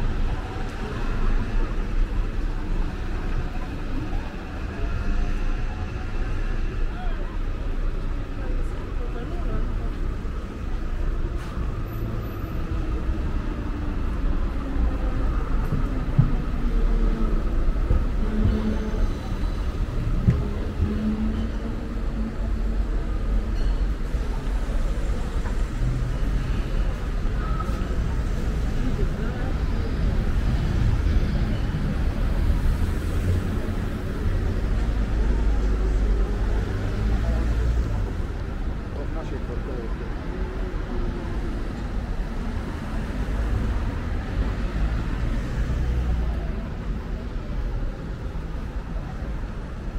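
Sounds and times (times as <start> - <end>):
road noise: 0.0 - 49.9
vehicle engine rumble: 0.0 - 49.9.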